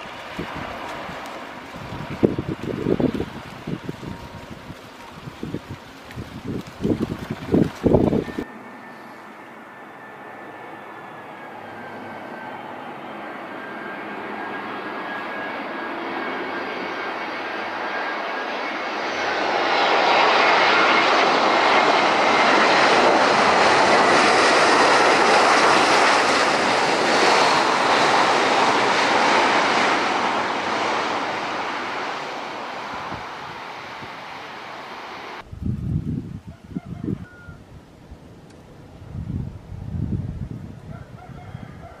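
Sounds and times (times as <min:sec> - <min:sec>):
loud rushing jet noise: 0:00.0 - 0:09.5, 0:11.2 - 0:35.6
jet engine whine: 0:00.0 - 0:36.5, 0:37.1 - 0:42.0.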